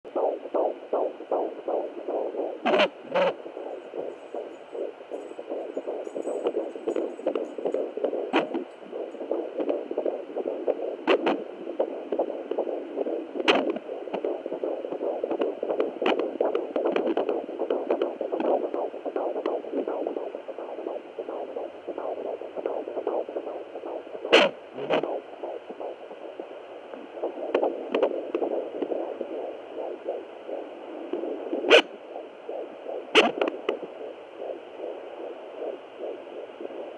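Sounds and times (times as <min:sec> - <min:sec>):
doppler heartbeat whooshing: 0:00.1 - 0:26.4, 0:27.0 - 0:36.9.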